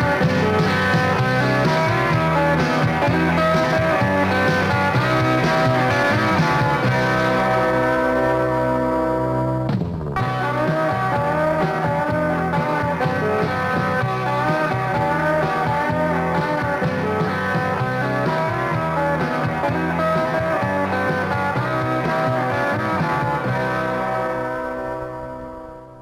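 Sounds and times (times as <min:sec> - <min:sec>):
rock song with guitars: 0:00.0 - 0:25.4.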